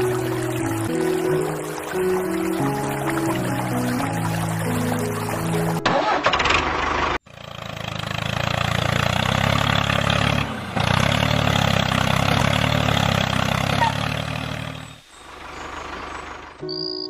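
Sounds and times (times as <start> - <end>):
tractor engine chugging: 0.0 - 17.0.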